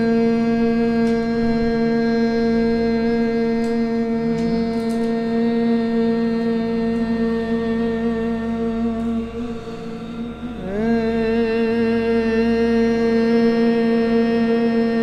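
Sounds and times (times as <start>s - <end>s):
hummed overtone vocal drone: 0.0s - 15.0s.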